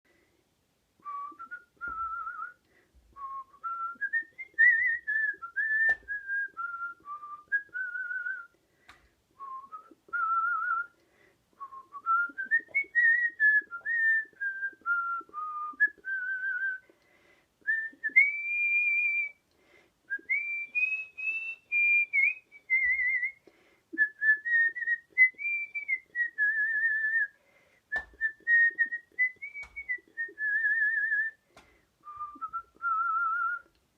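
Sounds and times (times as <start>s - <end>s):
person whistling a melody: 1.0s - 2.6s, 3.2s - 8.6s, 9.4s - 11.0s, 11.6s - 16.9s, 17.6s - 19.4s, 20.1s - 33.7s.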